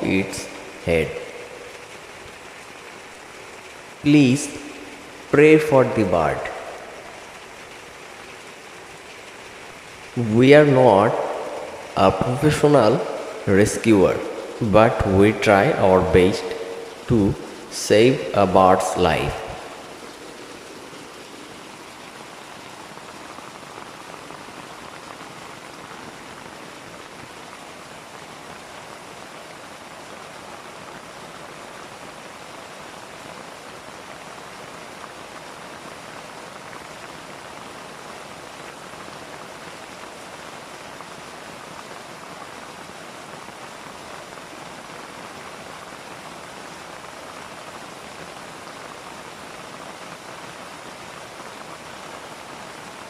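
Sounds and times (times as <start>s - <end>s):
steady rushing hiss: 0.0s - 53.0s.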